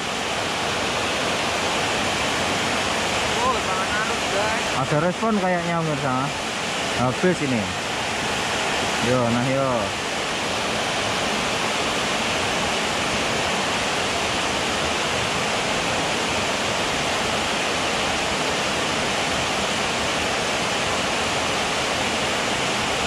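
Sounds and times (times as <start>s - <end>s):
stream rushing over weir: 0.0s - 23.0s.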